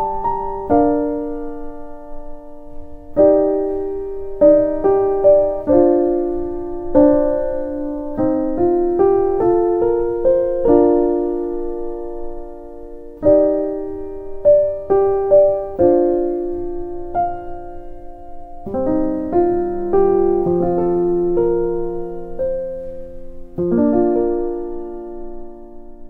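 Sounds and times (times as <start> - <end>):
slow solo piano piece: 0.0 - 26.0.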